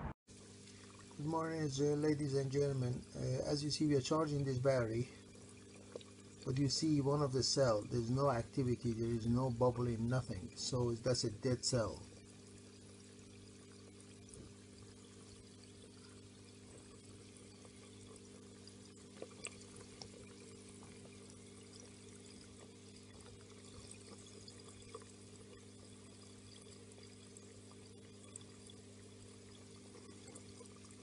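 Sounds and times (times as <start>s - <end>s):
steady low hum: 0.0s - 31.0s
battery electrolyte fizzing: 0.5s - 31.0s.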